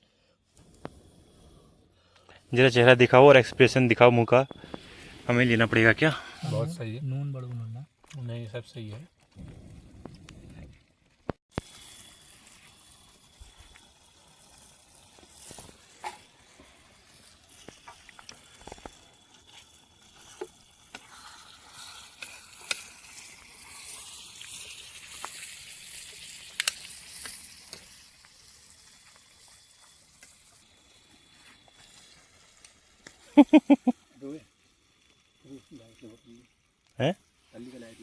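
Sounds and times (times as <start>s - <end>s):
gravy sizzling in a pan: 2.0s - 7.3s, 11.5s - 38.0s.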